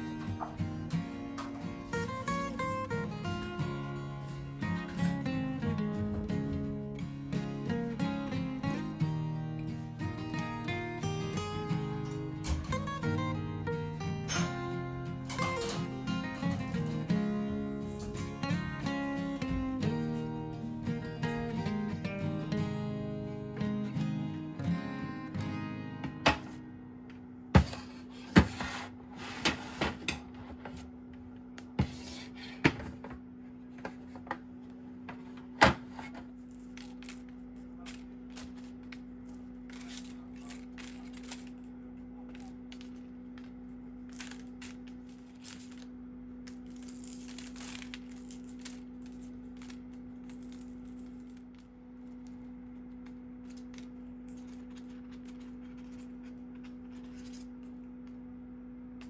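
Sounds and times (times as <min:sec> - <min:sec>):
appliance humming: 0:00.0 - 0:59.0.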